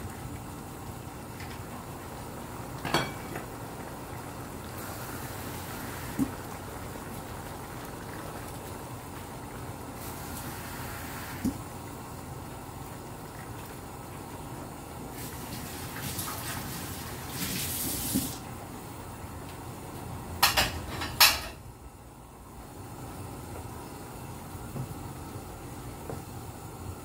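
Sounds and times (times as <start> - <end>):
stew bubbling in a pan: 0.0 - 27.0.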